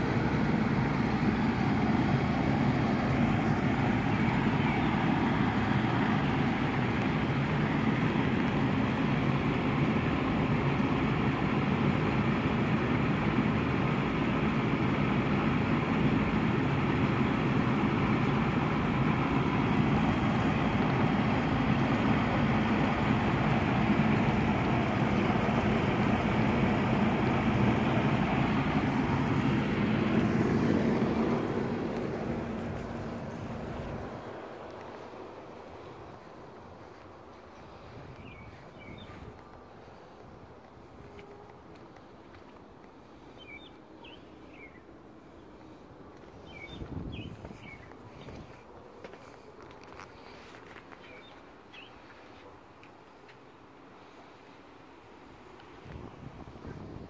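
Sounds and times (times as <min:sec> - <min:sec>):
mechanical hum with low rumble: 0:00.0 - 0:48.9.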